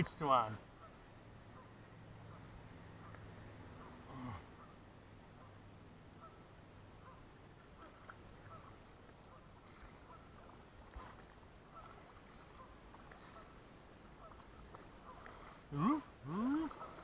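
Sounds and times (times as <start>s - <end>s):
faint bird calls: 0.7s - 17.0s.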